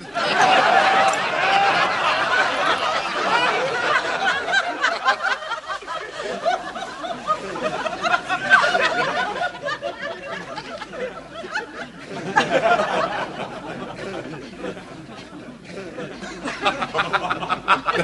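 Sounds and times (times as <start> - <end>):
studio audience laughing: 0.0 - 18.0.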